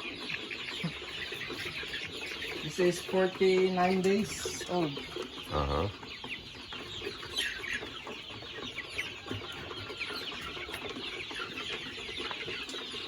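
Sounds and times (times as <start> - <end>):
young chickens peeping and clucking: 0.0 - 13.0.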